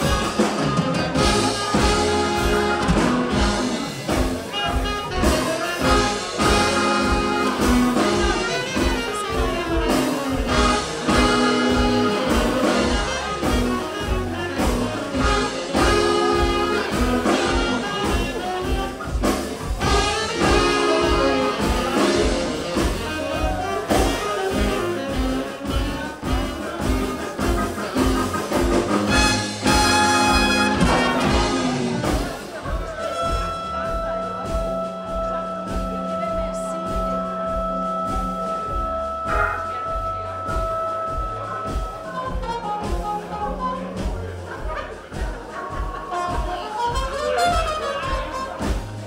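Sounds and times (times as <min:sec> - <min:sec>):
bass beat: 0:00.0 - 0:49.0
saxophones: 0:00.0 - 0:49.0
trumpet: 0:00.0 - 0:49.0.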